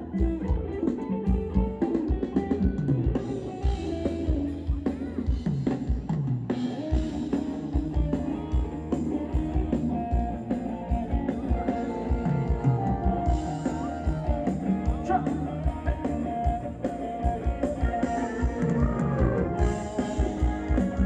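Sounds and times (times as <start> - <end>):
band music over loudspeakers: 0.0 - 21.0
drum kit beat: 0.0 - 21.0
electric guitar: 0.0 - 21.0.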